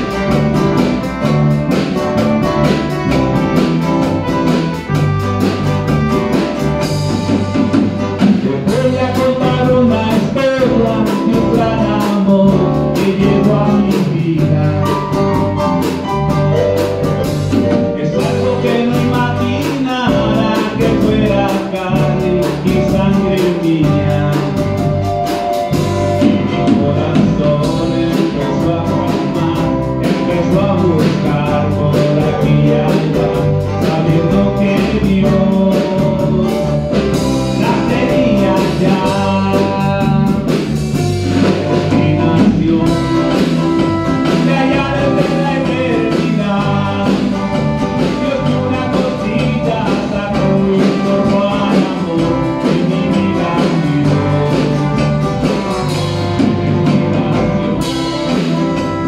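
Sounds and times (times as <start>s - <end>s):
acoustic guitar: 0.0s - 59.0s
drum kit beat: 0.0s - 59.0s
electric bass: 0.0s - 59.0s
electronic keyboard: 0.0s - 59.0s
live band playing: 0.0s - 59.0s
man singing into a microphone: 8.2s - 15.6s, 17.5s - 58.8s.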